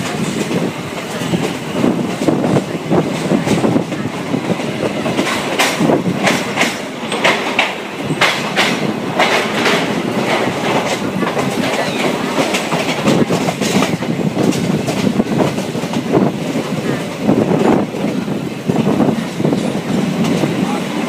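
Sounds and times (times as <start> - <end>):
train rumble and rattle: 0.0 - 21.0
train wheels clacking on rails: 0.0 - 21.0.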